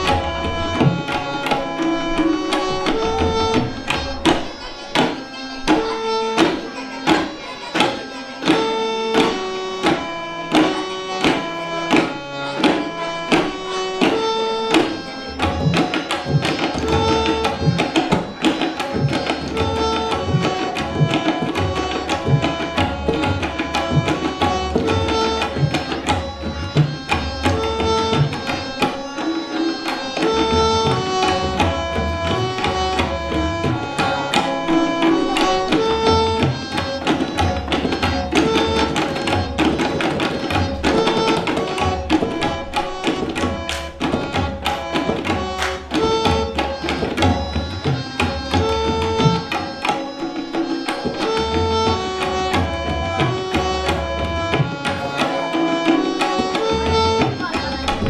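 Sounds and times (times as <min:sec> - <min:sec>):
treble tabla strokes: 0:00.0 - 0:58.0.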